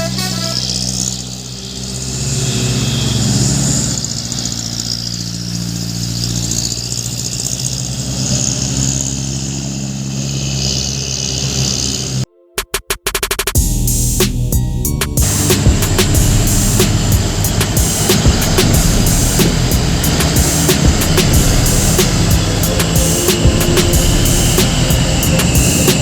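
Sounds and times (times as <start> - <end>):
truck engine revving and running: 0.0 - 12.2, 13.6 - 26.0.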